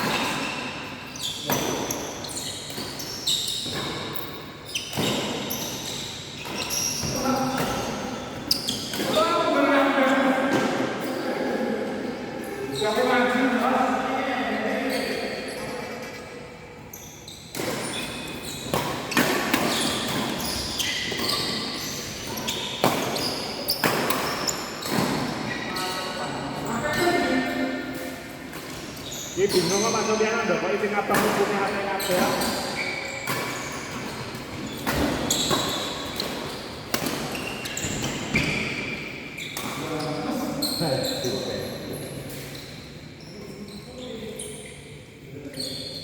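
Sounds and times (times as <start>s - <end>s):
shoes squeaking on court floor: 0.0s - 46.0s.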